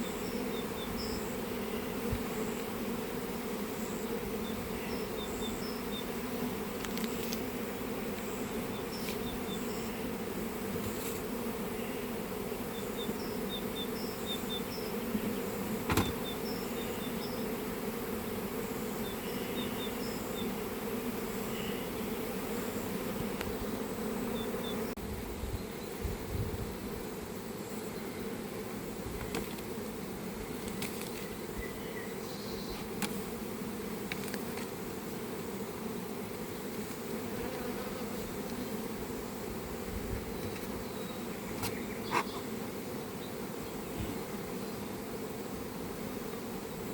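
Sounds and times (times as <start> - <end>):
honeybees buzzing: 0.0 - 46.9.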